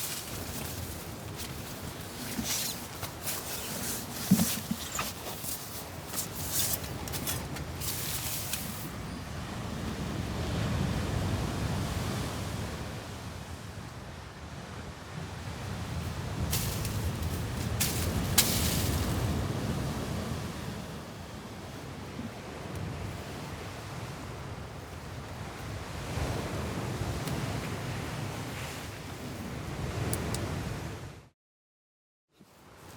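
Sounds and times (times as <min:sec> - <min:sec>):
wind: 0:00.0 - 0:31.4, 0:32.3 - 0:32.9.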